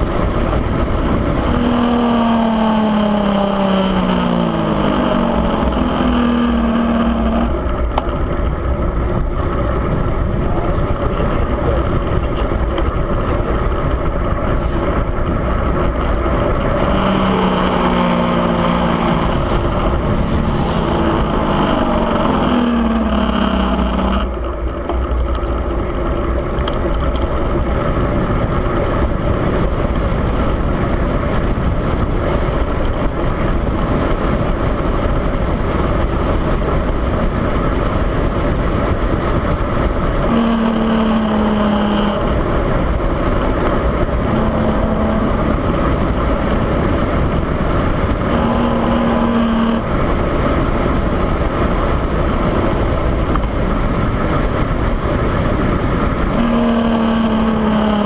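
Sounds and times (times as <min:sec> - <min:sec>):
vehicle engine note: 0:00.0 - 0:29.7, 0:38.2 - 0:58.0
wind rush on microphone: 0:00.0 - 0:58.0.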